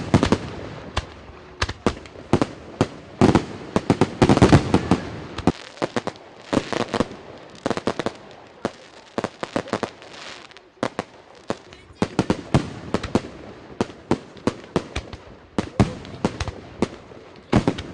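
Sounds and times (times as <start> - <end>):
fireworks bangs: 0.0 - 17.9.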